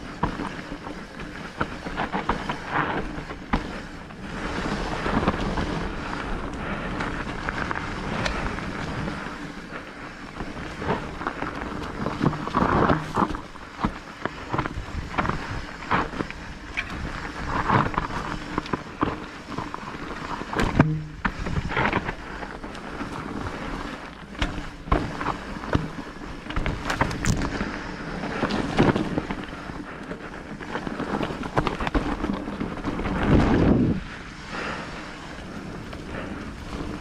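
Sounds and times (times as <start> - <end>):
bike knocking and rattling: 0.0 - 37.0
bike tyre noise on trail: 0.0 - 37.0.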